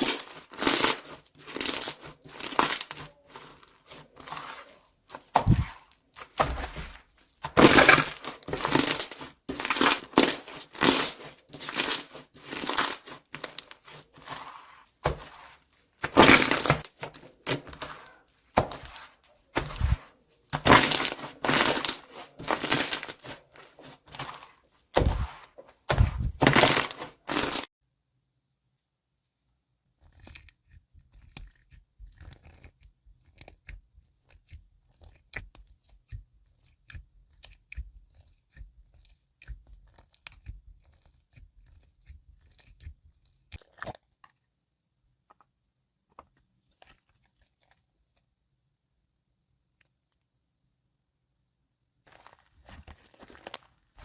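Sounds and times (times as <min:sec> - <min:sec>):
slime crunching and crackling: 0:00.0 - 0:27.7, 0:30.0 - 0:44.3, 0:52.1 - 0:54.0.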